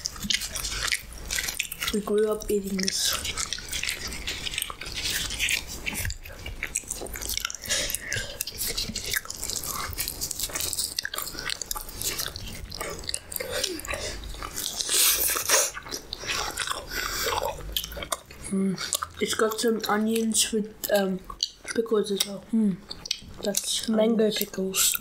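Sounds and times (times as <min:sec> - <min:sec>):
person biting and chewing bread: 0:00.0 - 0:23.8, 0:24.4 - 0:25.0
mouth smacks and clicks: 0:00.0 - 0:25.0.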